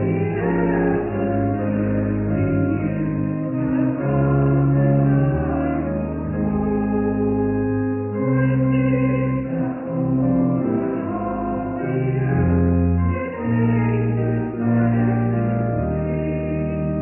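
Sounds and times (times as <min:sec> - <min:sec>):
choir singing: 0:00.0 - 0:17.0
instrumental accompaniment: 0:00.0 - 0:17.0
steady low bass: 0:00.0 - 0:17.0.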